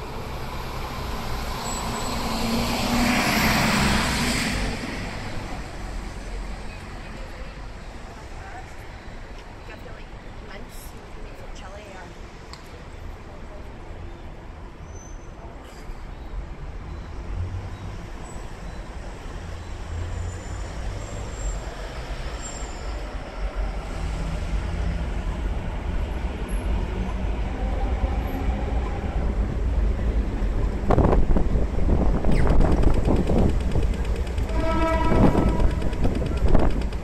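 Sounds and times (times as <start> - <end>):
electric train rumbling: 0.0 - 10.4, 16.5 - 37.0
street traffic: 0.0 - 37.0.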